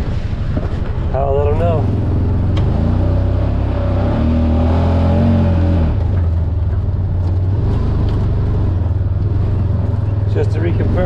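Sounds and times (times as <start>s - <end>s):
vehicle engine revving: 1.5s - 11.0s.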